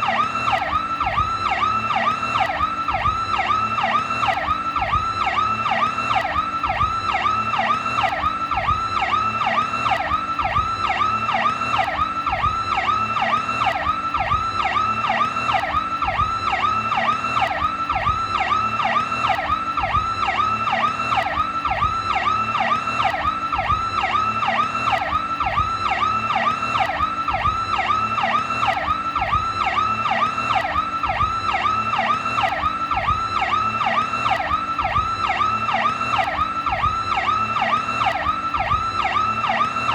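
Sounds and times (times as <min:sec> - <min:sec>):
police siren sweeping: 0:00.0 - 0:39.9.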